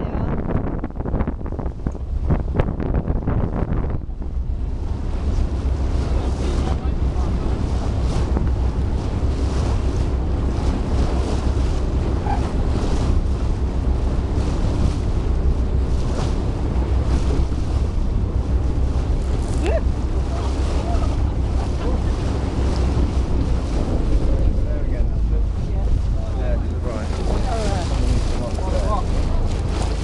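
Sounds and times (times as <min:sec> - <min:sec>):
choppy sea water washing: 0:00.0 - 0:30.0
wind buffeting microphone: 0:00.0 - 0:30.0.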